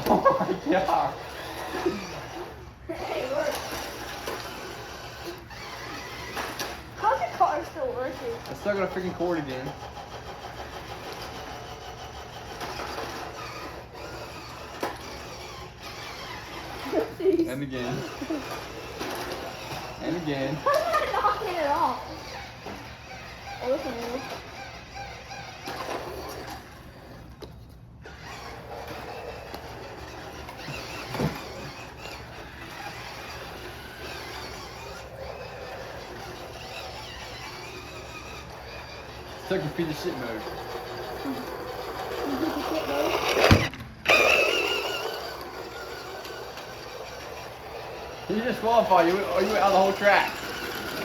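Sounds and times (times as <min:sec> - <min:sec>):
toy car electric motors whirring: 0:00.0 - 0:51.0.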